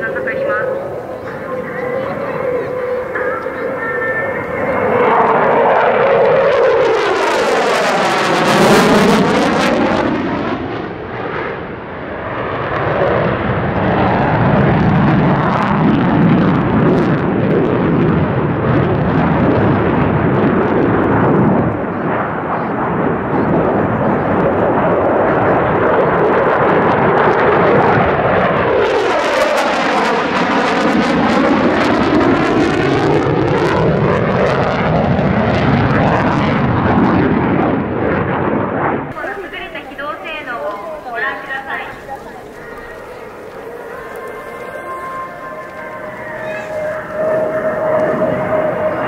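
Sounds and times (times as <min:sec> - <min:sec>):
fighter jet roaring overhead: 0:00.0 - 0:49.0.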